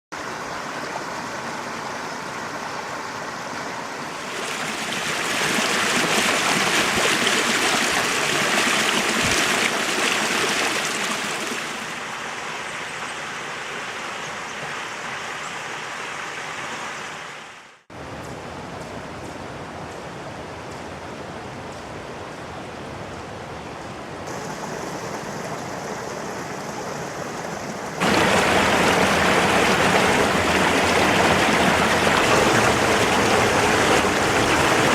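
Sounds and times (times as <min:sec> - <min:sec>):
stream rushing over rocks: 0:00.1 - 0:17.8, 0:24.3 - 0:34.9.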